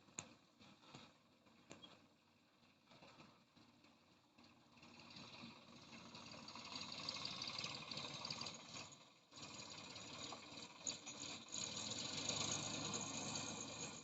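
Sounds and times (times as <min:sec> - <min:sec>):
tractor engine rattling: 0:00.0 - 0:14.0.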